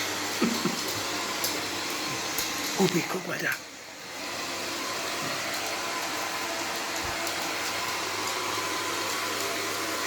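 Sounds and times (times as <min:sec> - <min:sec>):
robot vacuum whirring: 0:00.0 - 0:10.0.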